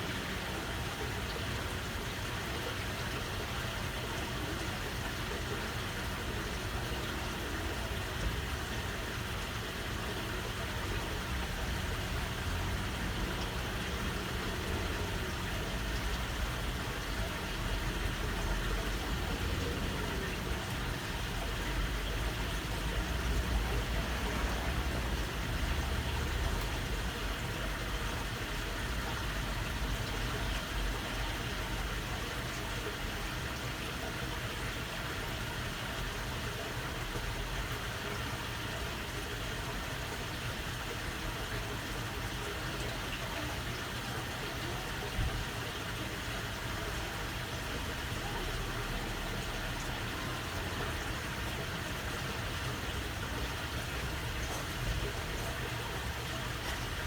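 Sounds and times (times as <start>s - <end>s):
water flowing: 0.0s - 57.0s.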